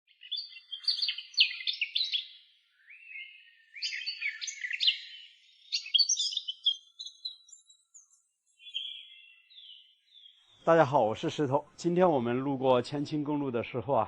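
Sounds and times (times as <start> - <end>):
songbird singing: 0.1 - 13.9.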